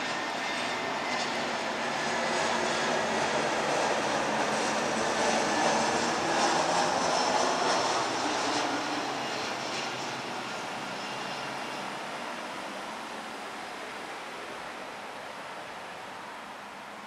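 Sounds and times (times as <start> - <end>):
jet engines rushing: 0.0 - 16.7.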